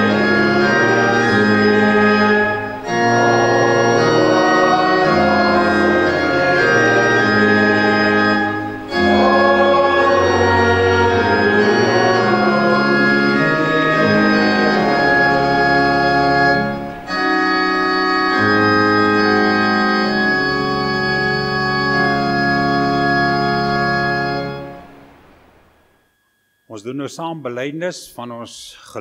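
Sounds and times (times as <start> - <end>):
church organ chords: 0.0 - 28.4.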